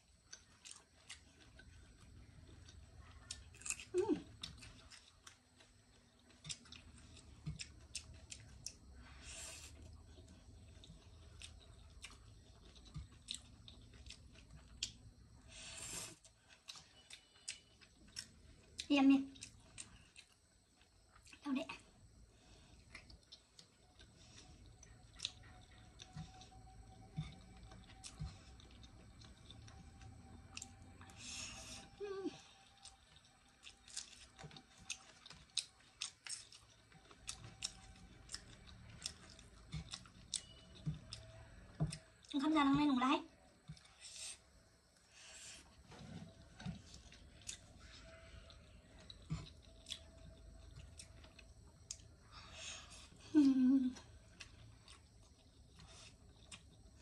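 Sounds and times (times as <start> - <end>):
person chewing noodles: 0.0 - 21.4, 22.0 - 42.4, 43.3 - 57.0.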